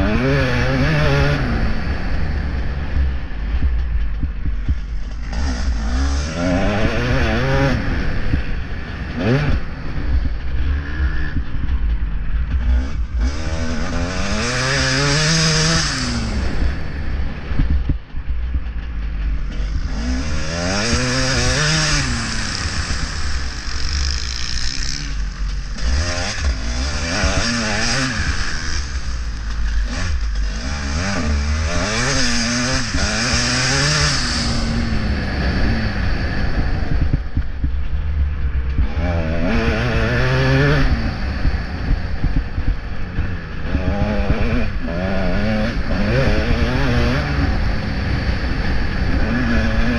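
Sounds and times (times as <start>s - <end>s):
low rumble: 0.0s - 49.9s
motocross bike engine revving: 0.0s - 49.9s.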